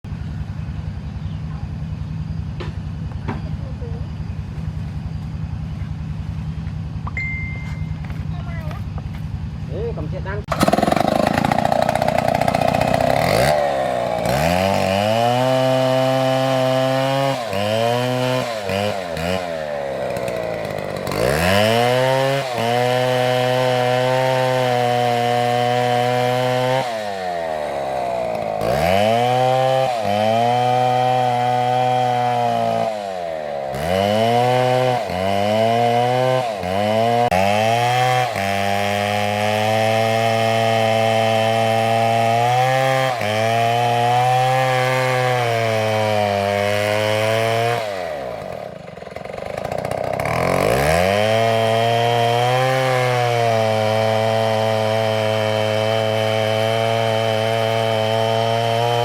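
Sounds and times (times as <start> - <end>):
chainsaw cutting through log: 8.0 - 59.0.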